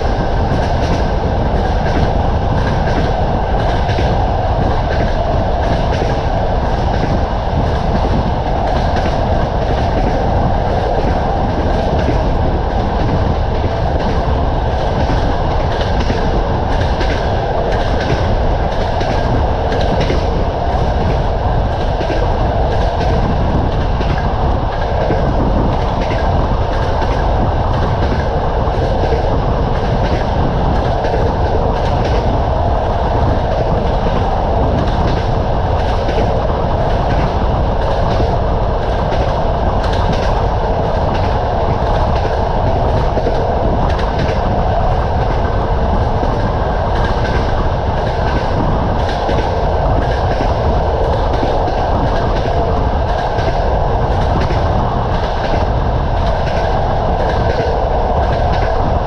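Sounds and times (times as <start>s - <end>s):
train running rumble: 0.0s - 59.0s
train wheels clacking on rails: 0.0s - 59.0s.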